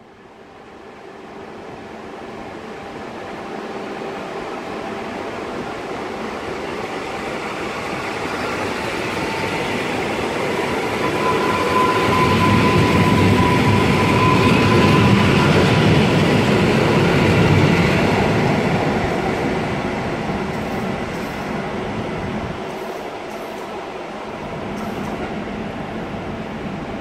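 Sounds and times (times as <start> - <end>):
electric train passing: 0.2 - 27.0.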